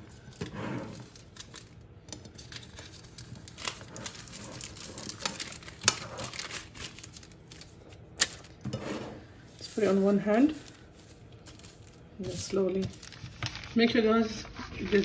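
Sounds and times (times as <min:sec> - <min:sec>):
paper and plastic crinkling: 0:00.0 - 0:08.6, 0:09.5 - 0:15.0.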